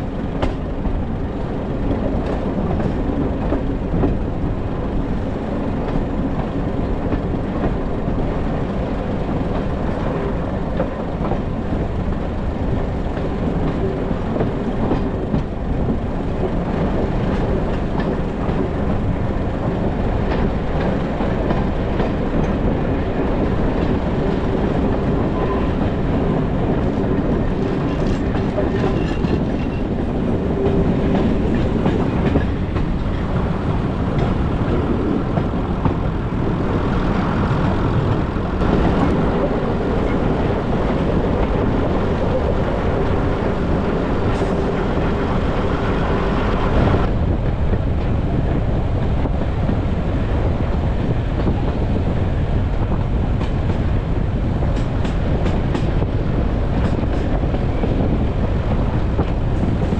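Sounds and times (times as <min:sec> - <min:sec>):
clickety-clack of rail joints: 0:00.0 - 0:59.9
rumble of wheels on rail: 0:00.0 - 0:59.9.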